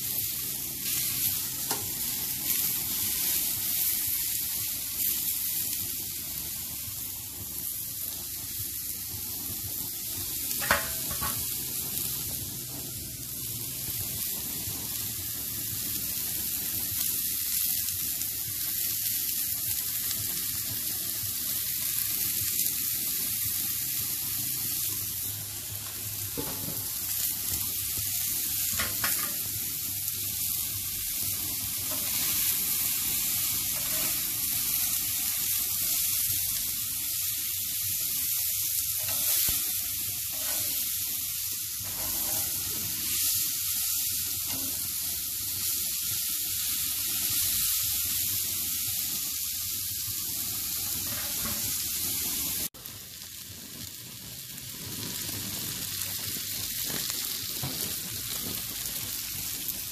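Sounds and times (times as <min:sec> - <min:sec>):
food sizzling on a griddle: 0:00.0 - 0:59.9.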